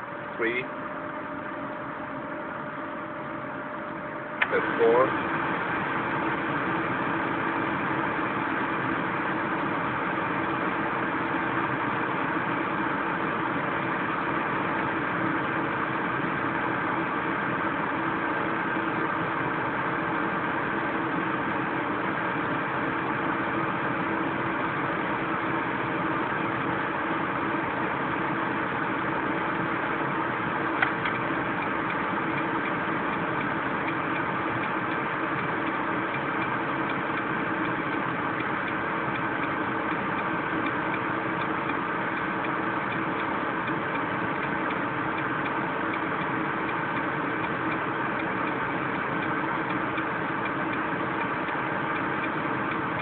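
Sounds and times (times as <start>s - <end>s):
heater fan whirring hum: 0.0s - 53.0s.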